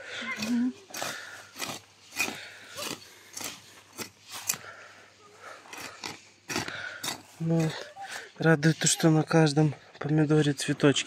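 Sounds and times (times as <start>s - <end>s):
scraping crunches on dry soil: 0.0s - 10.5s.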